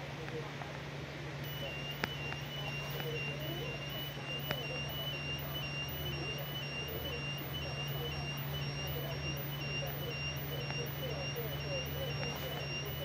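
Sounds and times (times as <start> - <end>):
steady low hum: 0.0 - 13.0
high repeating warning beep: 1.4 - 13.0.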